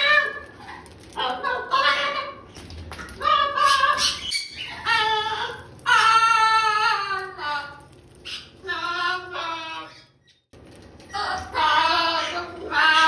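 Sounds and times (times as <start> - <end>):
parrot talking: 0.0 - 0.6, 1.2 - 2.5, 3.2 - 10.2, 11.1 - 13.0.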